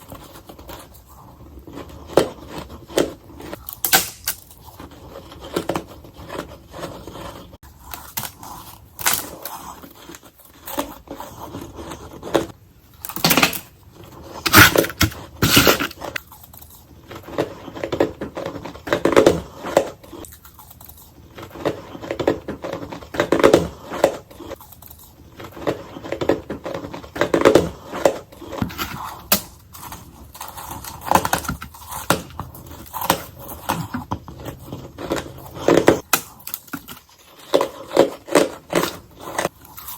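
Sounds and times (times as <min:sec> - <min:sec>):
ice crunching being chewed: 0:00.0 - 0:13.2, 0:13.8 - 0:39.9.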